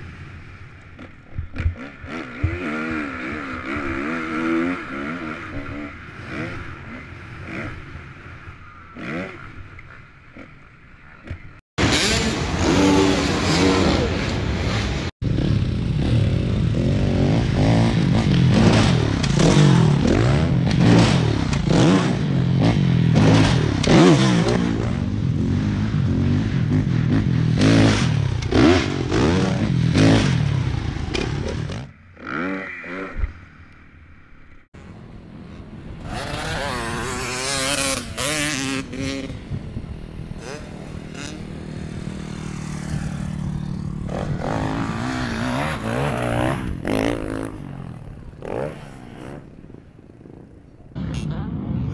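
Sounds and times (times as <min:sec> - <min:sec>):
dirt bike engines revving: 0:00.0 - 0:51.5.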